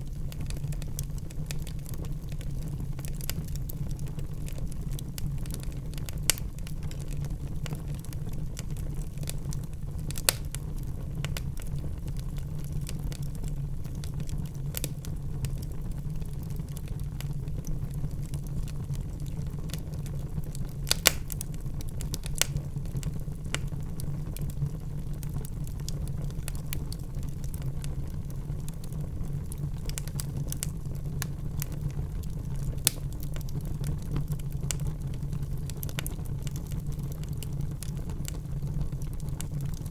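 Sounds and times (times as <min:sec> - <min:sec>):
fire popping: 0:00.0 - 0:39.9
flames rumbling: 0:00.0 - 0:39.9.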